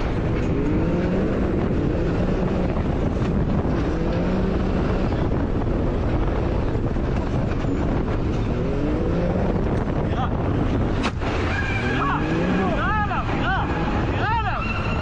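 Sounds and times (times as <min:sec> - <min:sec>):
vehicle engine revving: 0:00.0 - 0:15.0
wind noise on microphone: 0:00.0 - 0:15.0.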